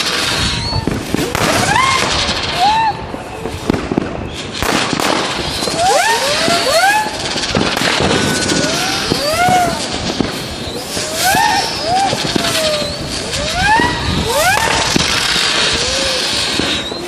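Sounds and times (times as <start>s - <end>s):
firecrackers crackling and banging: 0.0s - 17.0s
firework whistles: 0.0s - 17.0s.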